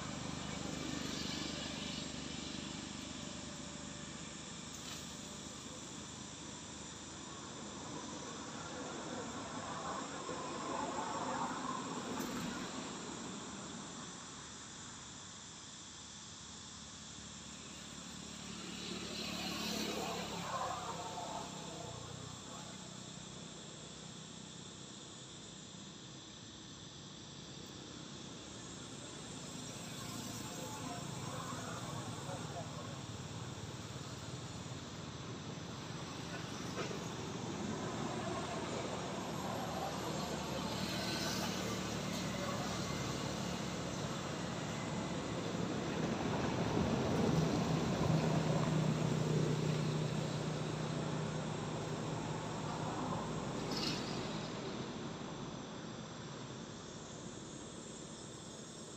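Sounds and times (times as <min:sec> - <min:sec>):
broad rush of noise: 0:00.0 - 0:15.5, 0:16.2 - 0:24.7, 0:26.8 - 0:58.9
insects trilling: 0:00.0 - 0:58.9.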